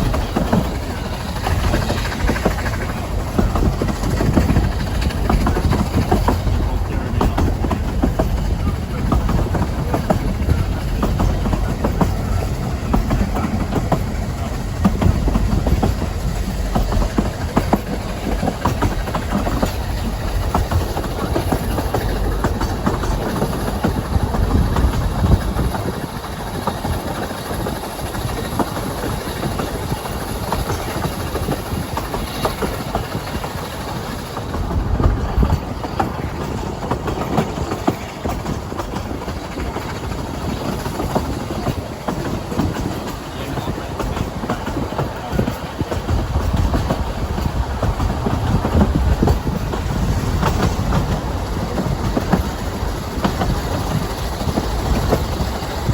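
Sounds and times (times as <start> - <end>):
train low rumble: 0.0 - 55.9
train wheels rattling on rails: 0.0 - 55.9.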